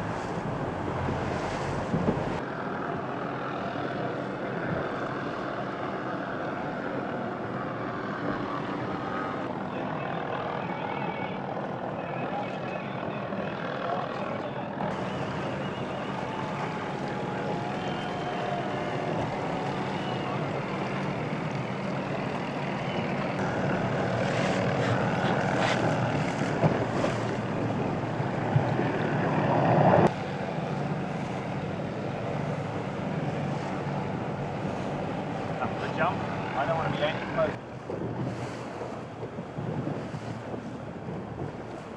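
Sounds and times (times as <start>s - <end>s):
boat engine humming: 0.0s - 41.9s
water noise: 0.0s - 41.9s
wind: 0.0s - 41.9s.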